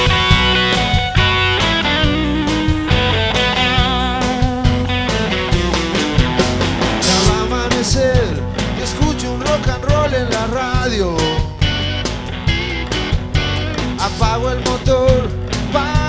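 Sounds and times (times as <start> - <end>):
lead guitar bending notes: 0.0 - 16.0
live rock band playing: 0.0 - 16.0.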